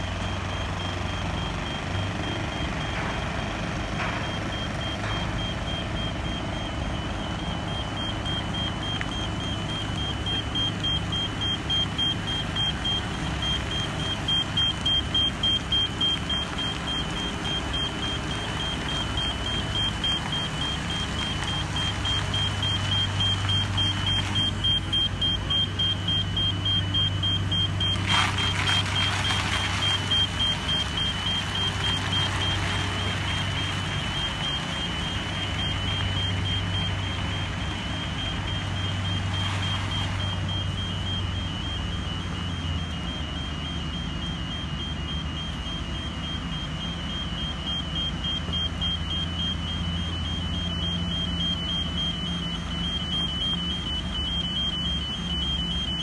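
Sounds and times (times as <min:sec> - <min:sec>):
low engine drone: 0:00.0 - 0:56.0
rapid high warning beep: 0:00.0 - 0:56.0.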